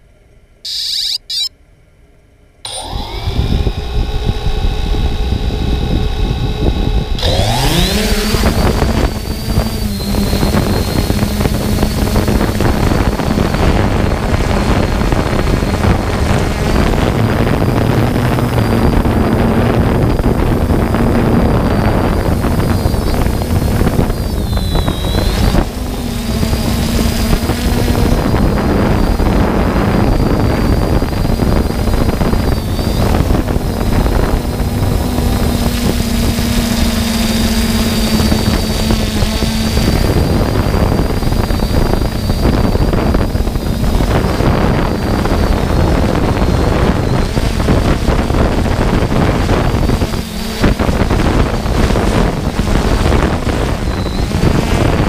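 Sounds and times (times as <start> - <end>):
drone motors whining: 0.7 - 1.5, 2.7 - 55.0.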